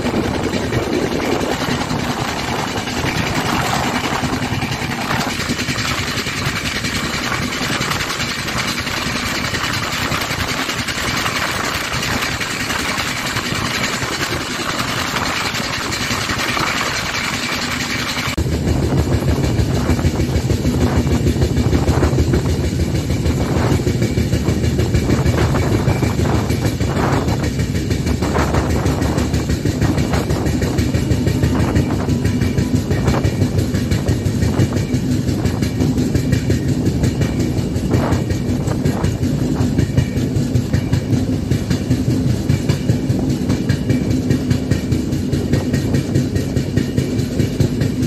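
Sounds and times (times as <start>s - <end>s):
train wheels on rails: 0.0s - 48.0s.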